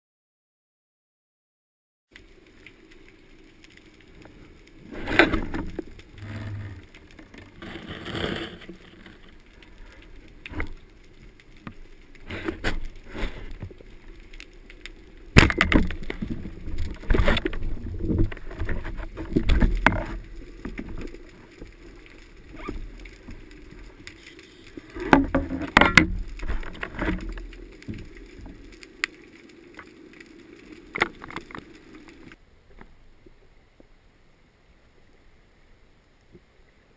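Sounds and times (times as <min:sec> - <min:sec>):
steady low underwater hum: 0:02.2 - 0:36.9.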